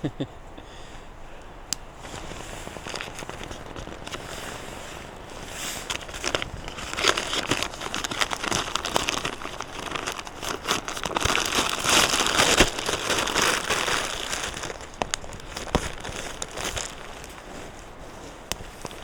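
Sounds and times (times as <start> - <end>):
sharp little clicks and crackles: 1.4 - 19.0
crinkly material rustling: 2.0 - 19.0.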